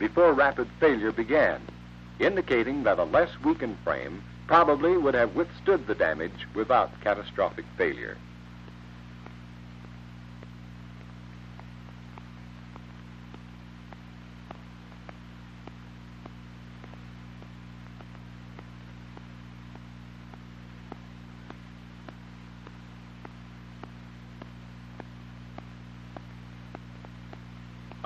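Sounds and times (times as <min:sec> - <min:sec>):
faint regular ticks: 0:00.0 - 0:28.0
mains hum and hiss: 0:00.0 - 0:28.0.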